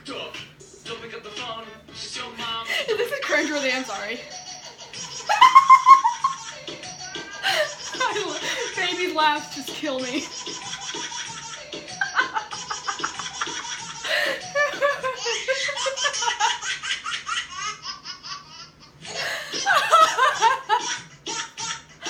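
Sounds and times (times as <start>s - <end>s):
baby laughing: 2.7s - 9.3s, 10.1s - 22.0s.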